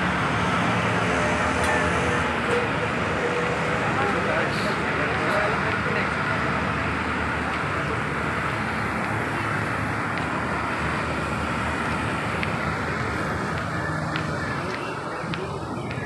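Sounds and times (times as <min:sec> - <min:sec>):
outdoor background rush: 0:00.0 - 0:16.0.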